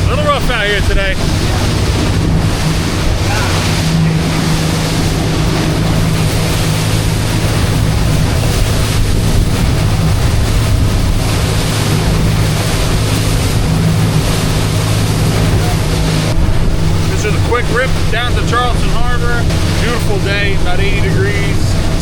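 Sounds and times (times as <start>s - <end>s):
motorboat engine running: 0.0s - 22.0s
water rushing past hull: 0.0s - 22.0s
wind buffeting microphone: 0.0s - 22.0s.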